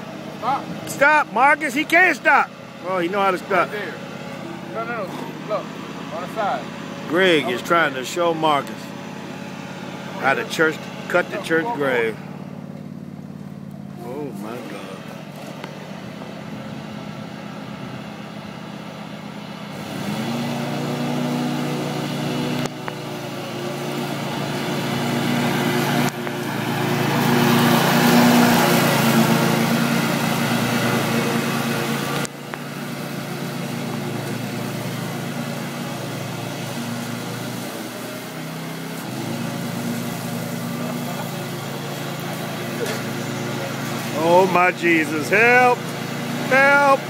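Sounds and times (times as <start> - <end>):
riding mower engine running: 0.0 - 47.0.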